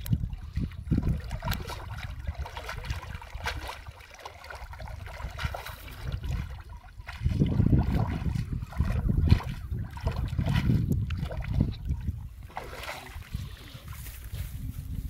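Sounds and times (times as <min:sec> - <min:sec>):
water splashing and dripping: 0:00.0 - 0:14.2.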